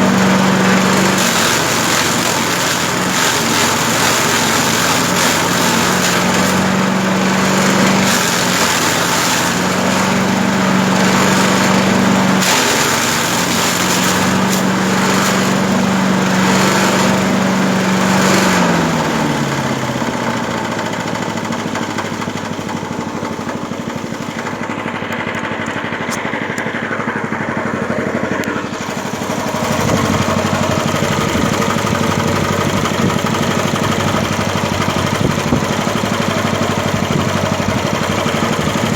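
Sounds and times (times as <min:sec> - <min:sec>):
grass chopper engine hum: 0:00.0 - 0:38.9.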